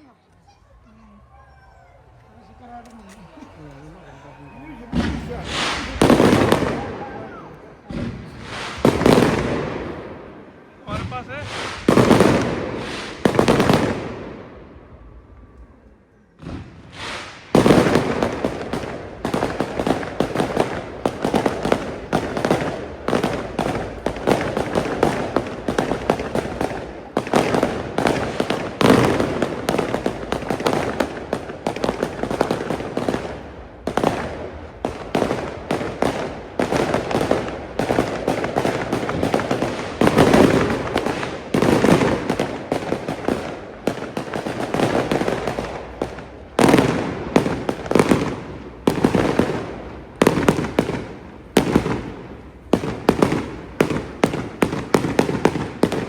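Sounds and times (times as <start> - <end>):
fireworks bangs and crackles: 2.0 - 15.8, 16.4 - 56.0.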